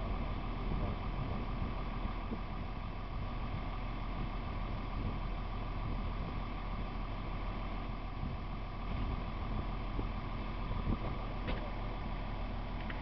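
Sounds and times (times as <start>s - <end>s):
wind buffeting microphone: 0.0s - 6.9s, 8.1s - 11.8s.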